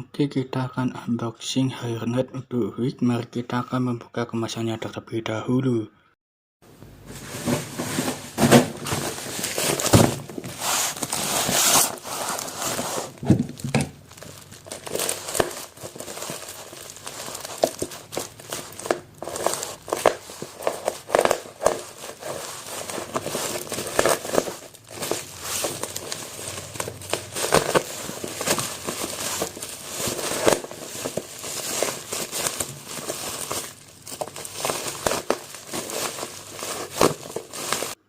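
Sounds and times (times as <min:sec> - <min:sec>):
packaging crinkling: 0:07.0 - 0:38.0.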